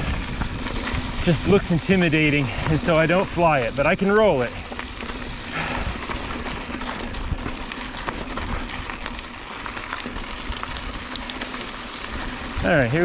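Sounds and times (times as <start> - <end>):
bike tyres crunching on gravel: 0.0 - 13.0.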